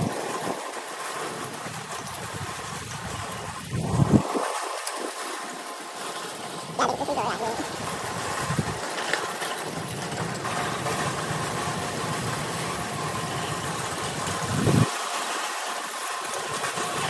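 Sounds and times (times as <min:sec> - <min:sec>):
wheels rolling over pavement: 0:00.0 - 0:17.0.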